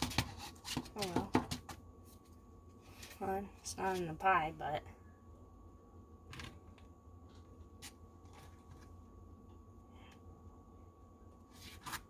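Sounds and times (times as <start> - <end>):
quiet room hum: 0.0 - 12.0.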